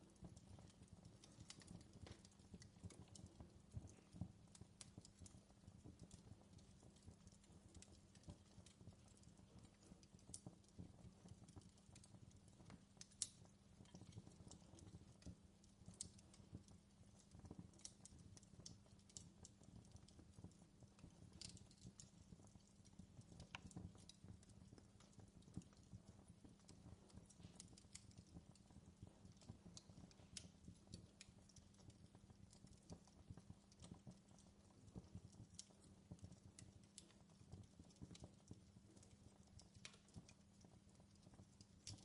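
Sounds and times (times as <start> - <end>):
fireplace fire crackling: 0.0 - 42.0.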